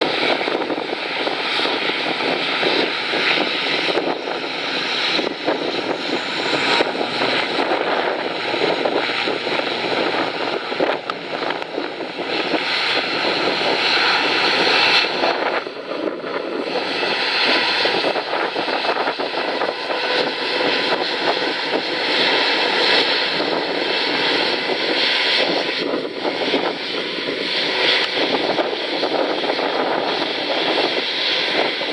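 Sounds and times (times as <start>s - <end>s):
turboprop engines roaring: 0.0s - 31.9s.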